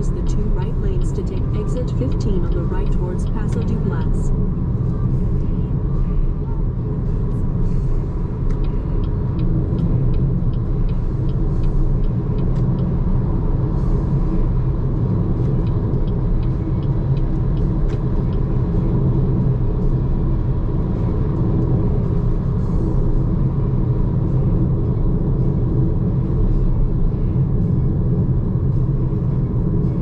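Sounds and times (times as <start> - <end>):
road and tyre rumble: 0.0 - 30.0.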